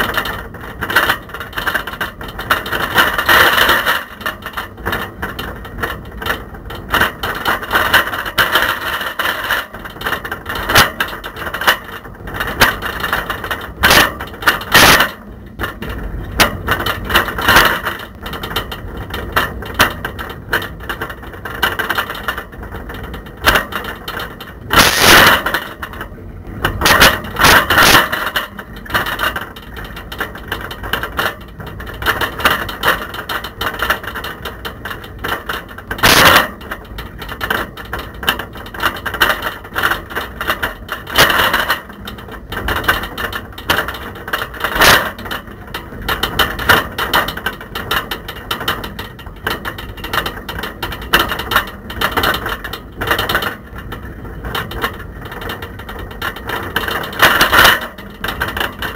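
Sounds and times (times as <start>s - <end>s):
camera rattling in bicycle basket: 0.0s - 58.9s.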